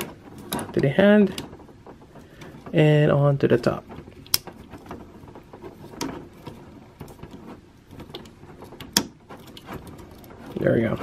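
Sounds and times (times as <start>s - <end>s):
plastic parts clicking and rubbing: 0.0s - 11.0s.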